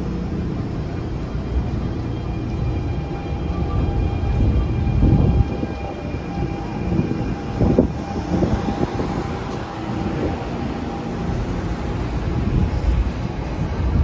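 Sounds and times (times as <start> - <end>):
thin steady whining tones: 0.0 - 14.0
train equipment low hum: 0.0 - 14.0.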